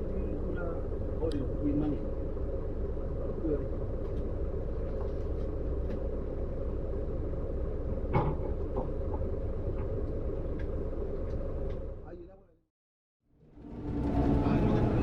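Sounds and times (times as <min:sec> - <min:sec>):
bus engine rumble and hum: 0:00.0 - 0:12.4, 0:13.4 - 0:15.0.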